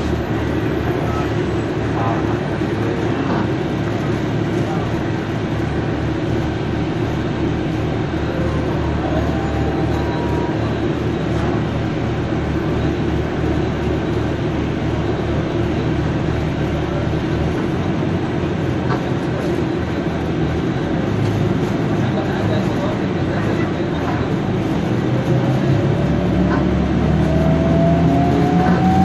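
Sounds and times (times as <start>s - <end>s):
bus engine drone: 0.0s - 29.0s
road rumble: 0.0s - 29.0s.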